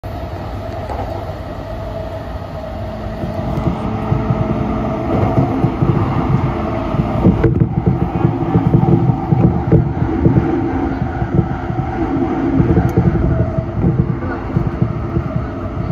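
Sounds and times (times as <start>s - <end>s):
faint hum: 0.0s - 15.9s
train wheels rumbling on rail: 0.0s - 15.9s.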